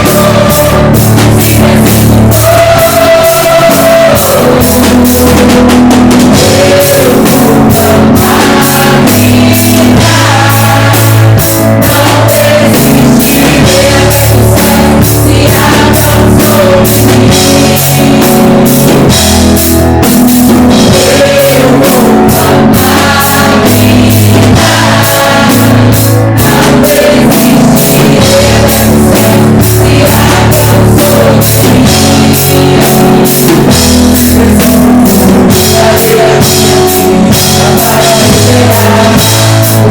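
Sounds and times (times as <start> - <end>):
person singing: 0.0 - 19.2, 20.6 - 39.9
bass and guitar: 0.0 - 39.9
drum kit beat: 0.0 - 39.9.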